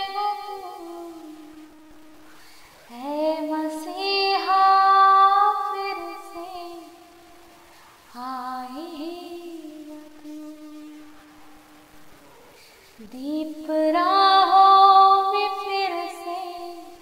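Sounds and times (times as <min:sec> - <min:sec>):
woman singing: 0:00.0 - 0:02.3, 0:02.9 - 0:07.5, 0:08.1 - 0:11.5, 0:13.0 - 0:17.0.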